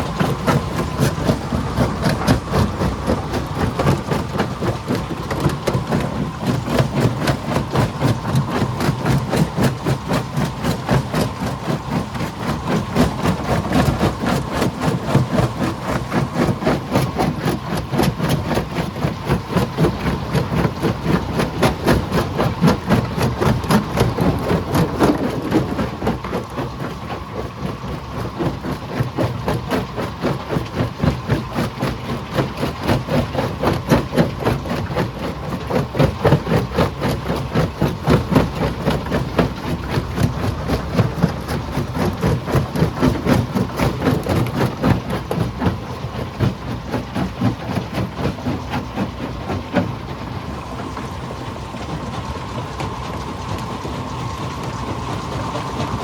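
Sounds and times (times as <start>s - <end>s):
engine low drone: 0.0s - 56.0s
steady whine: 0.0s - 56.0s.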